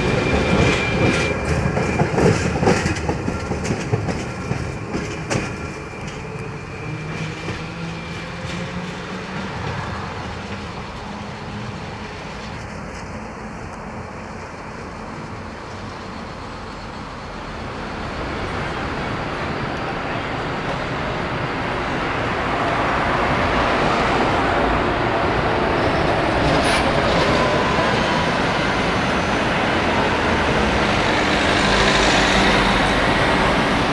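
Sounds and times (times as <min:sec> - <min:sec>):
city street traffic: 0:00.0 - 0:33.9
bus passing: 0:05.6 - 0:33.9.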